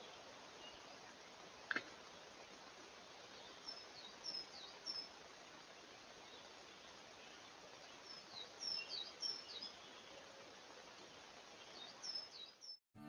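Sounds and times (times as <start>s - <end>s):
faint hiss: 0.0s - 12.7s.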